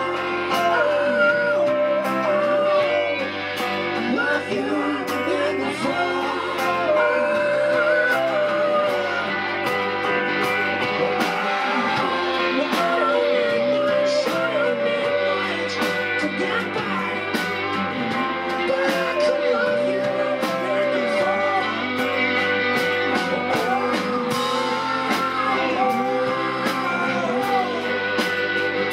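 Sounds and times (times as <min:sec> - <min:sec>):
drums and cymbal beat: 0:00.0 - 0:28.9
electric bass: 0:00.0 - 0:28.9
electric guitar: 0:00.0 - 0:28.9
person singing: 0:00.0 - 0:28.9.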